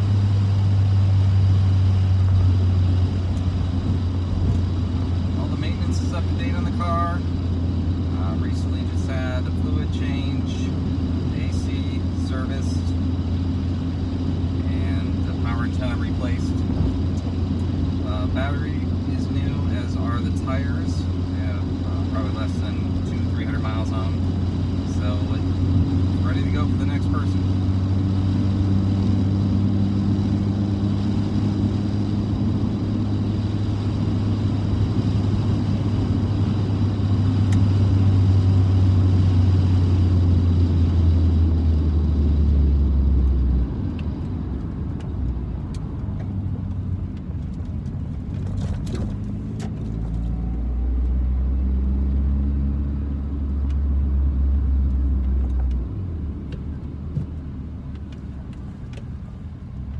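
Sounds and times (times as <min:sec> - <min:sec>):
car engine drone: 0:00.0 - 0:59.9
road noise: 0:00.0 - 0:59.9.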